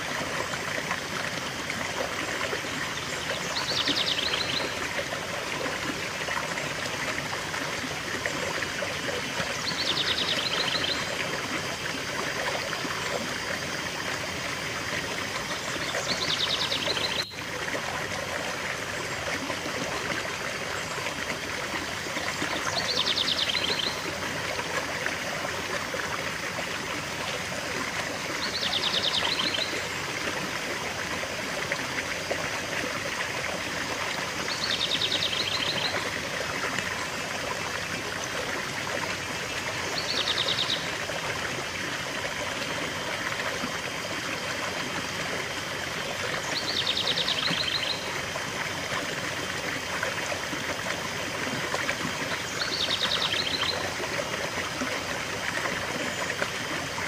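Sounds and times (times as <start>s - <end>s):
stream splashing over cascade: 0.0s - 57.0s.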